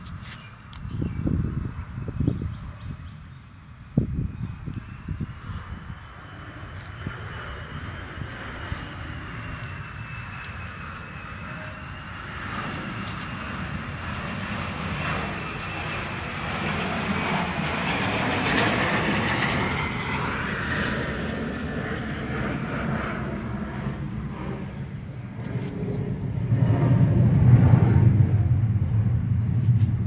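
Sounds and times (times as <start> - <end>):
airplane engine overhead: 0.0 - 30.0.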